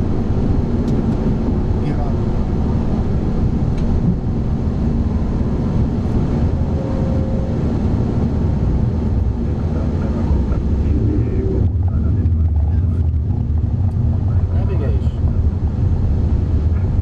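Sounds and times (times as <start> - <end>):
cockpit airflow and jet engines: 0.0 - 17.0.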